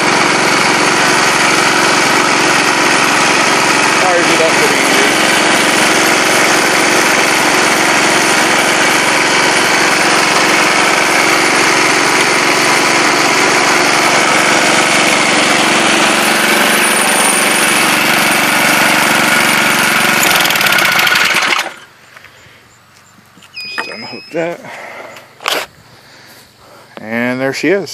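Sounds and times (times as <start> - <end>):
lawn mower engine running: 0.0 - 27.6.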